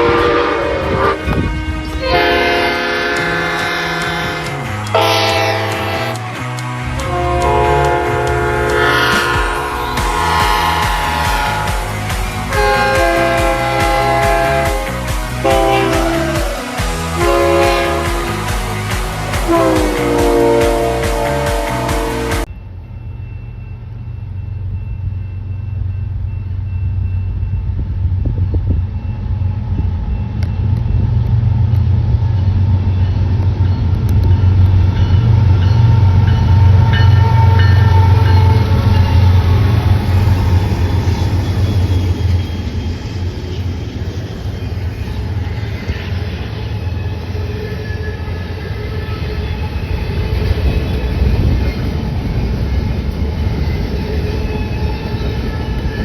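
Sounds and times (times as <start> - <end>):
high metallic tones: 0.0 - 27.8, 32.2 - 56.0
train passing: 0.0 - 56.0.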